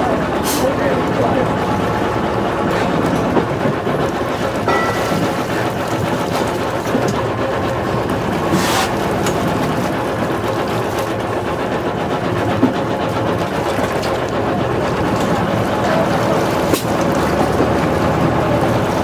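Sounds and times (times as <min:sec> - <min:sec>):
boat engine running: 0:00.0 - 0:19.0
water splashing: 0:00.6 - 0:19.0.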